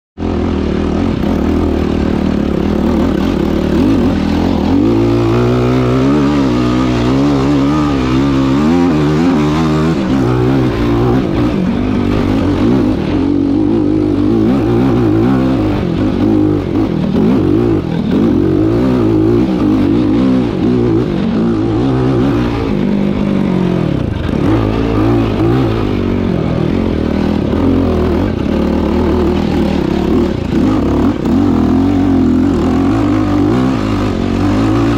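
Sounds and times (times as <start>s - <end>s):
atv engine revving: 0.2s - 34.9s.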